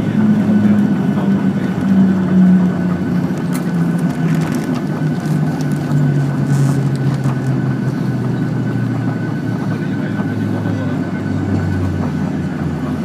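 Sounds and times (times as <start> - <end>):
jet engines in reverse thrust: 0.0 - 13.0.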